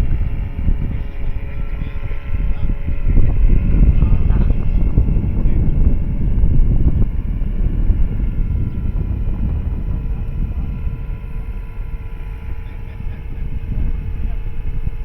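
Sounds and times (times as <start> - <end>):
model helicopter motor whine: 0.0 - 15.0
wind rumble on microphone: 0.0 - 15.0.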